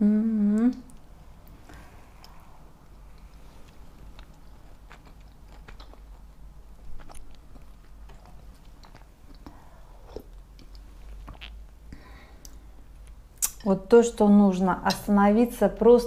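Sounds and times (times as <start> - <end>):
steady low hum: 0.0 - 16.0
person chewing and eating: 0.6 - 13.6.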